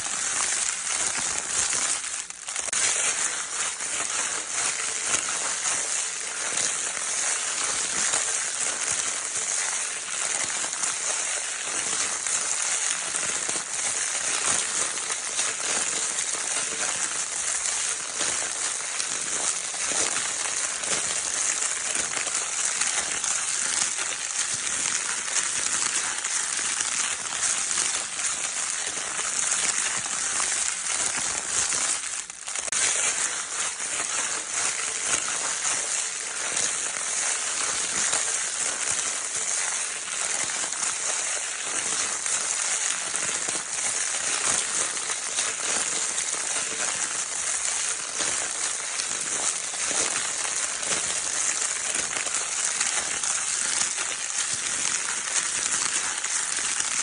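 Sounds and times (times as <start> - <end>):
crinkle paper crackling: 0.0 - 57.0.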